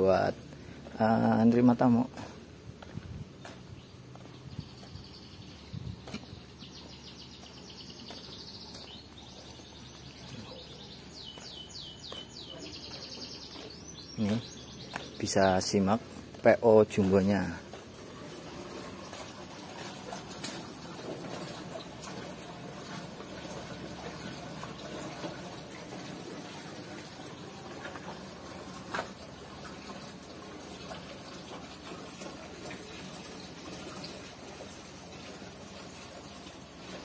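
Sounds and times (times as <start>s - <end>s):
running water trickling: 0.0s - 37.0s.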